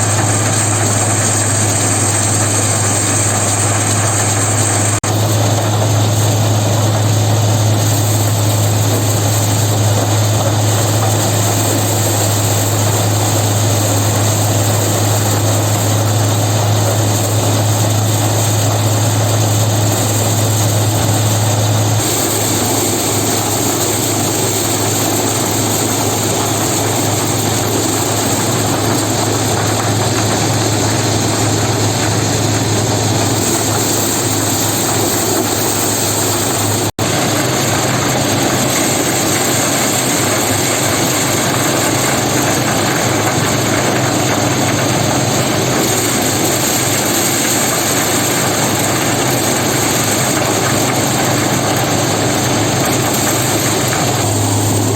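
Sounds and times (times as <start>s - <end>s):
farm machine engine humming: 0.0s - 54.9s.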